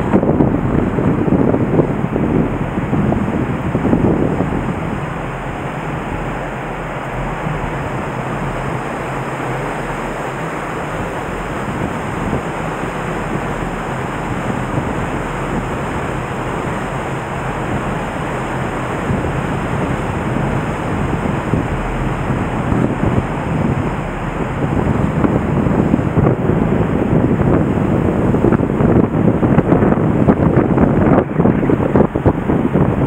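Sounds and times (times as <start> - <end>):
roar of rushing floodwater: 0.0 - 33.0
wind buffeting microphone: 0.0 - 33.0.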